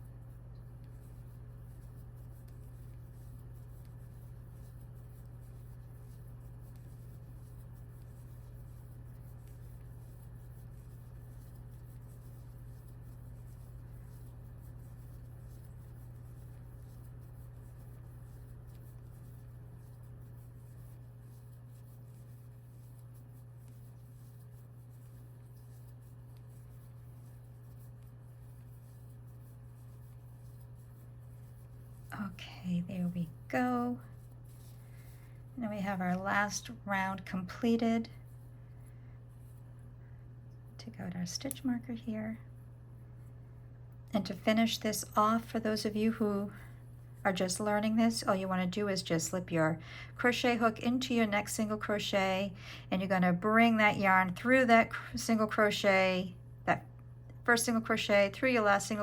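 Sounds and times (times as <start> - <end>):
crochet hook scratching yarn: 0.0 - 38.6, 44.2 - 56.2, 56.8 - 59.0.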